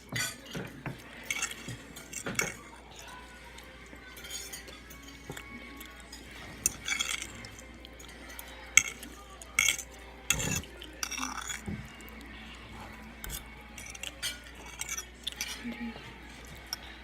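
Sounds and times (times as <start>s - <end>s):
cutlery clinking on dishes: 0.0s - 12.1s, 12.9s - 17.0s.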